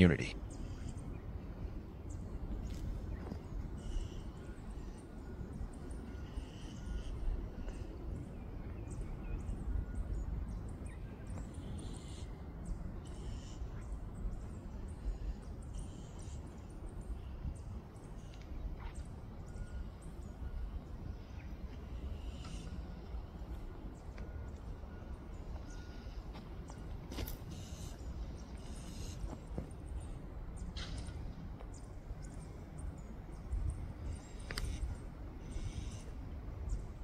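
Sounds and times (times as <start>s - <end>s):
birds calling: 0.0s - 37.0s
wind rumble on microphone: 0.4s - 37.0s.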